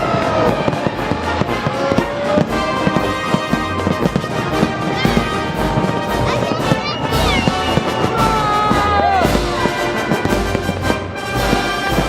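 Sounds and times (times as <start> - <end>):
firework bangs and crackles: 0.0 - 12.0
music playing: 0.0 - 12.0.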